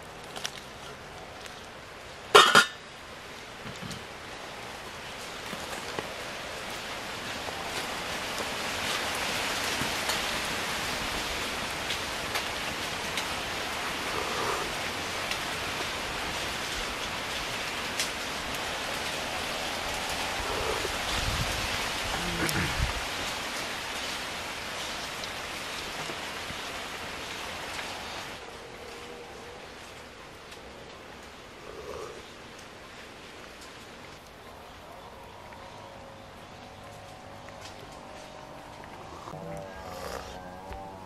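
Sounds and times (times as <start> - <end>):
steady hiss: 0.0 - 41.0.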